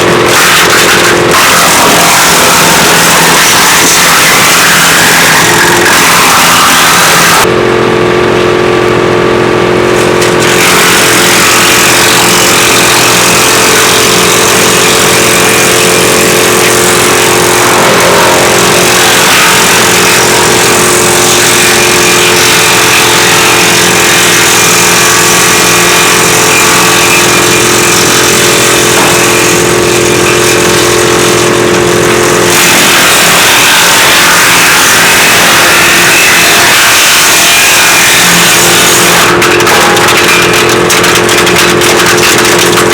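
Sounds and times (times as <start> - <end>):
hissing chipping noise: 0.0 - 7.5, 10.0 - 42.9
woodchipper running: 0.0 - 42.9.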